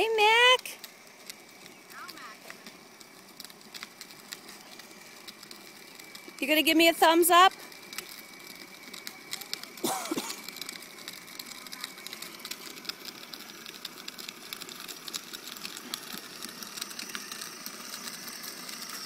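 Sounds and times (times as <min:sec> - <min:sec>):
high electric motor whine: 0:00.0 - 0:19.0
plastic wheels rattling on asphalt: 0:00.0 - 0:19.0.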